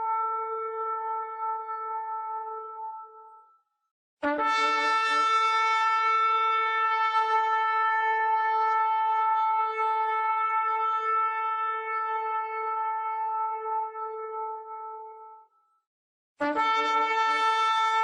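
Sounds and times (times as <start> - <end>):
shofar long held note: 0.0 - 3.5, 4.2 - 15.5, 16.4 - 18.0.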